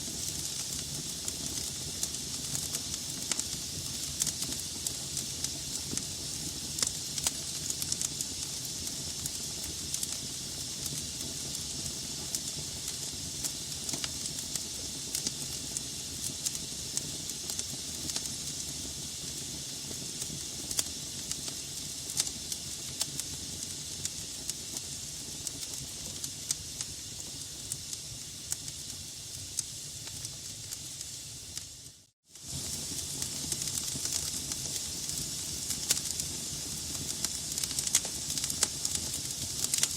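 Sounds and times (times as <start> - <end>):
burning logs crackling and popping: 0.0 - 31.7, 32.4 - 39.9
wood fire hissing and rumbling: 0.0 - 39.9.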